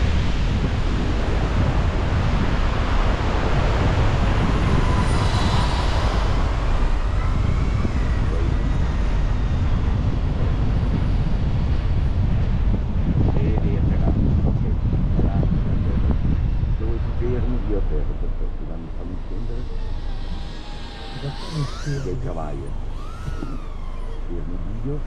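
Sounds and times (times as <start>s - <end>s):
faint tones: 0.0s - 12.1s, 13.4s - 25.0s
road noise: 0.0s - 25.0s
wind rumbling on microphone: 0.0s - 25.0s.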